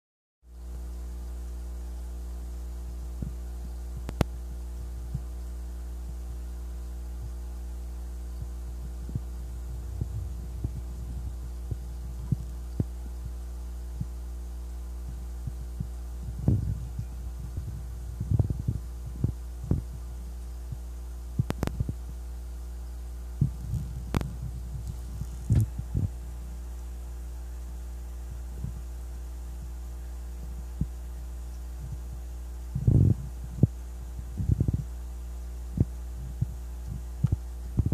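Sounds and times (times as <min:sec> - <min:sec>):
steady low hum: 0:00.5 - 0:37.9.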